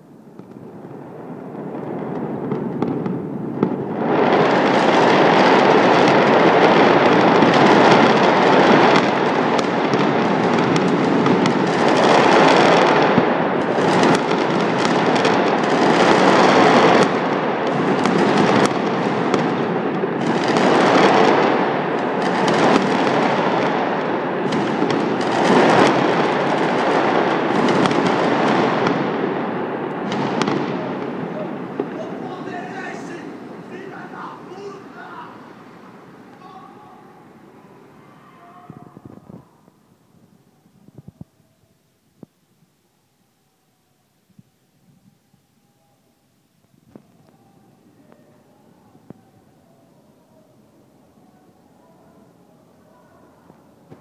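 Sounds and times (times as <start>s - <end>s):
fireworks and firecrackers crackling: 0.0s - 54.0s.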